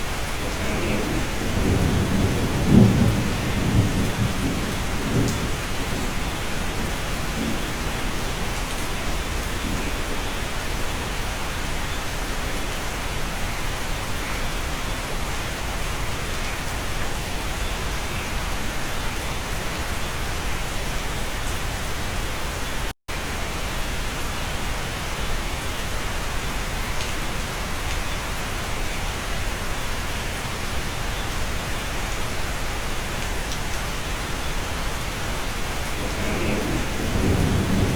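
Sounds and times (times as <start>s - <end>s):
steady rain: 0.0s - 37.9s.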